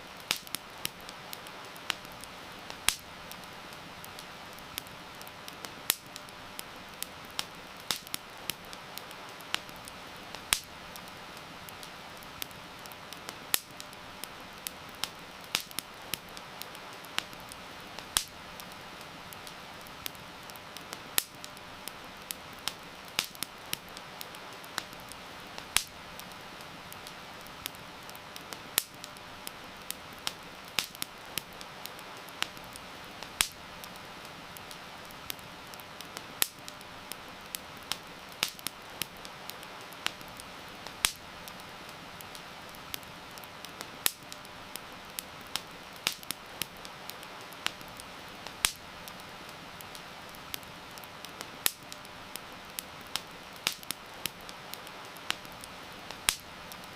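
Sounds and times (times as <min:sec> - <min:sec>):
rain hiss: 0:00.0 - 0:56.9
wood fire crackling: 0:00.0 - 0:56.9.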